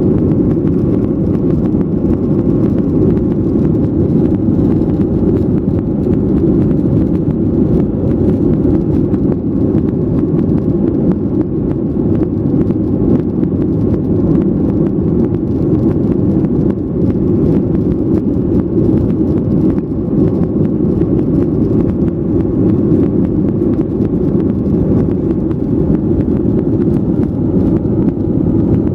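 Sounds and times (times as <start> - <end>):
airliner engine noise: 0.0 - 28.9.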